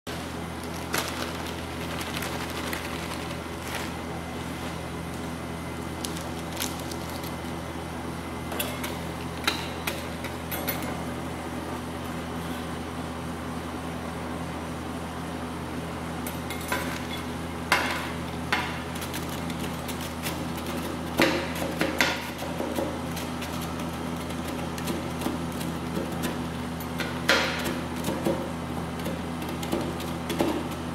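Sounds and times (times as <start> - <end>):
refrigeration machine hum: 0.1 - 30.9.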